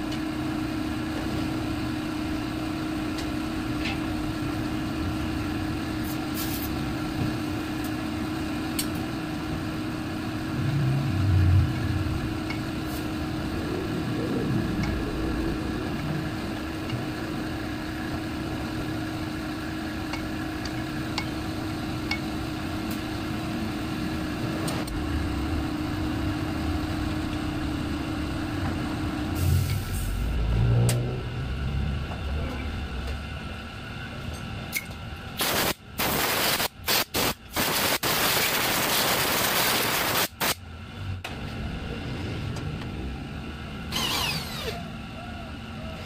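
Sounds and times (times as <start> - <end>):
steady motor hum: 0.0 - 46.0.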